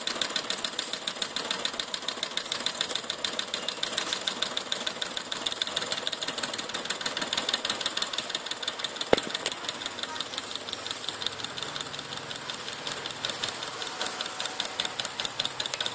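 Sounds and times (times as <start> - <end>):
engine flywheel ticking: 0.0 - 15.9.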